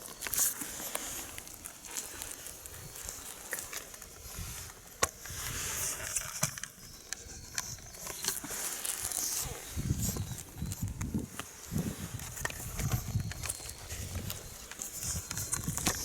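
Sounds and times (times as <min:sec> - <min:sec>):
kittens pattering and scrabbling: 0:00.0 - 0:16.0.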